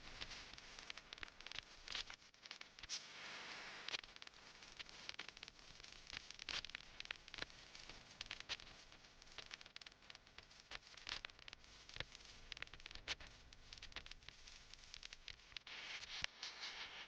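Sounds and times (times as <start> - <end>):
rustling with crackles and snaps: 0.0 - 17.0.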